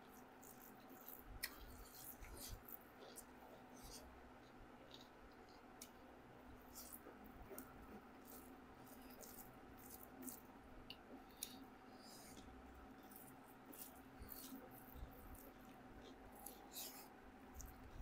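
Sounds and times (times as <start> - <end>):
low steady hum: 0.0 - 18.0
mouth clicks and chewing: 0.1 - 6.0, 6.7 - 18.0.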